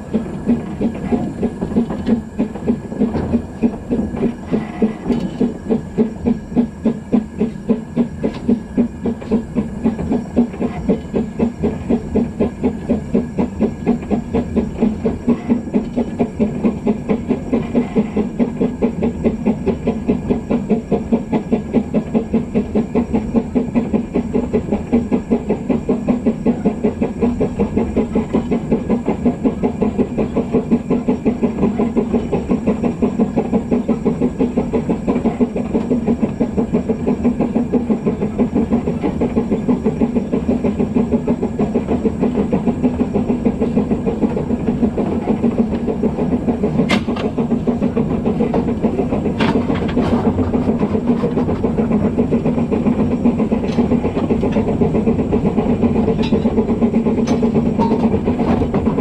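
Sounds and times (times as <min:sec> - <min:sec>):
steam locomotive exhaust beating: 0:00.0 - 0:59.0.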